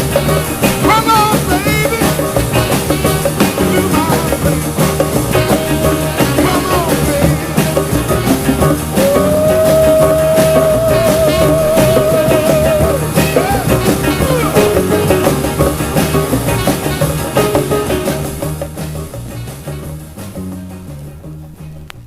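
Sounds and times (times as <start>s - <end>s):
band record playing: 0.0s - 22.0s.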